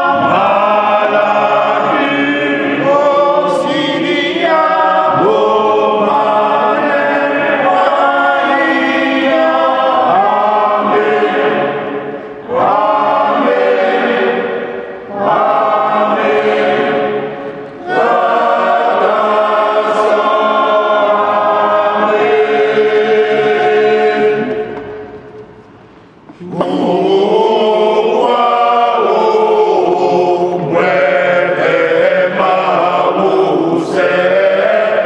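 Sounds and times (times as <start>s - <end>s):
choir singing a hymn: 0.0s - 25.2s, 26.3s - 35.0s.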